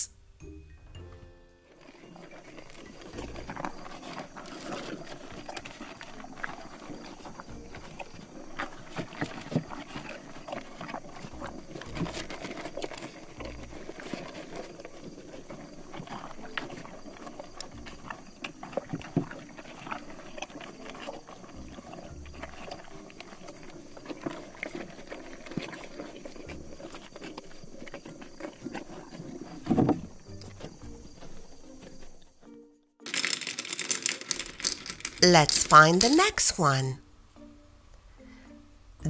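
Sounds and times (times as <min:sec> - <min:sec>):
horses chewing grass: 0:00.7 - 0:39.0.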